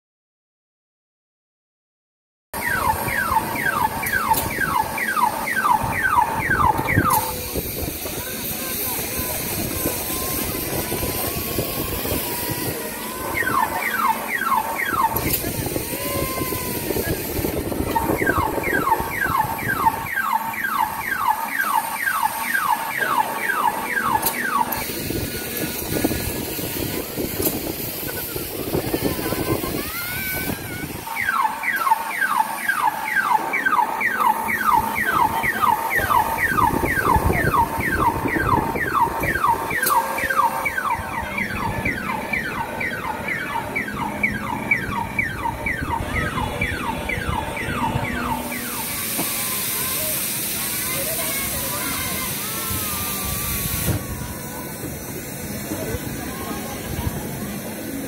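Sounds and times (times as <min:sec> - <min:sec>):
electronic siren with rising sweeps: 0:02.6 - 0:58.0.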